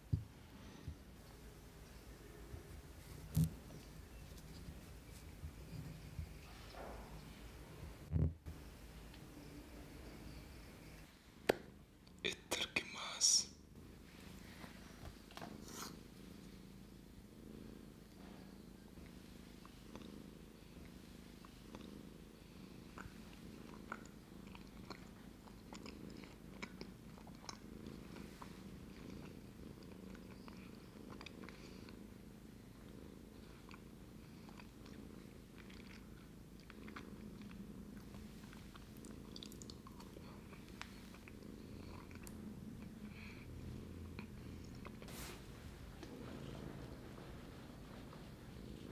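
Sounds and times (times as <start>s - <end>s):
cat purring: 0.0s - 11.1s, 13.7s - 48.9s.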